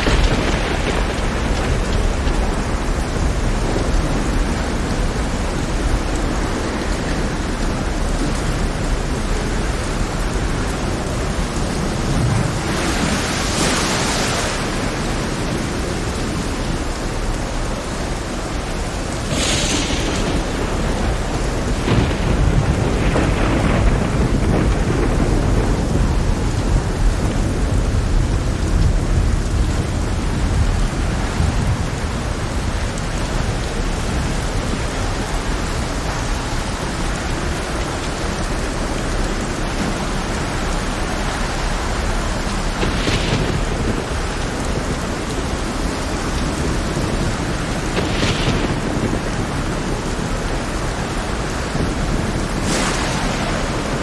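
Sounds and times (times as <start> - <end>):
heavy rain falling: 0.0 - 54.0
rolling thunder rumble: 0.0 - 54.0.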